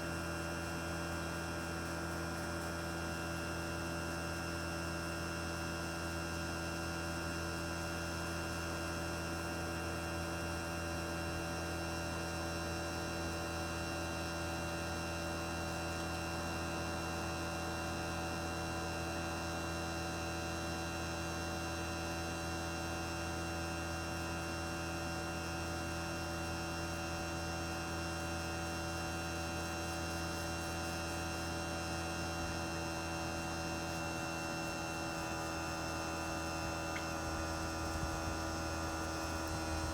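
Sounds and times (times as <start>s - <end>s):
air conditioner compressor hum: 0.0s - 39.9s
air conditioner fan: 0.0s - 39.9s.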